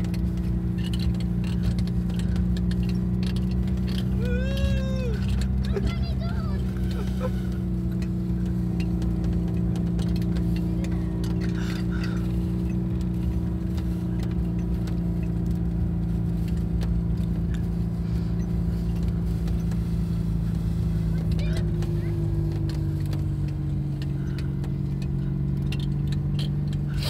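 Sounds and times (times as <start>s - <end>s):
light clicks and rattles: 0.0s - 27.0s
van engine running: 0.0s - 27.0s.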